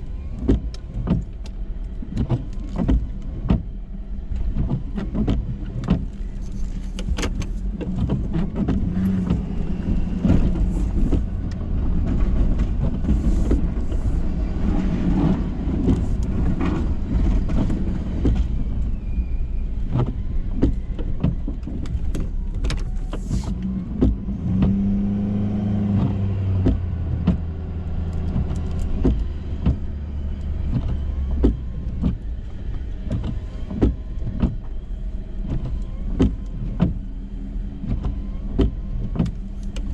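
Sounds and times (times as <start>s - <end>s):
pickup engine running: 0.0s - 39.9s.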